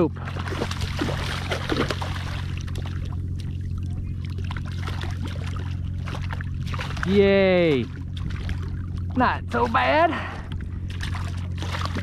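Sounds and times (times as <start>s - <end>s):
steady low hum: 0.0s - 12.0s
water sloshing along hull: 0.0s - 12.0s
fish thrashing and splashing: 0.2s - 9.2s, 10.4s - 12.0s.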